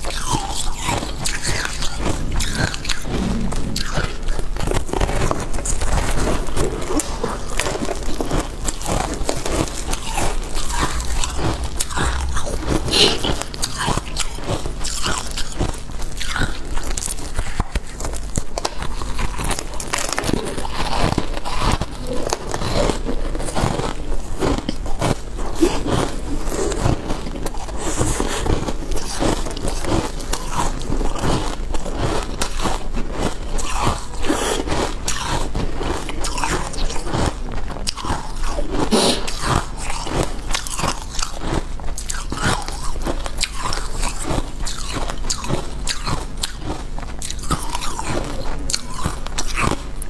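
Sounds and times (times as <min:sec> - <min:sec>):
person crunching ice: 0:04.7 - 0:49.8.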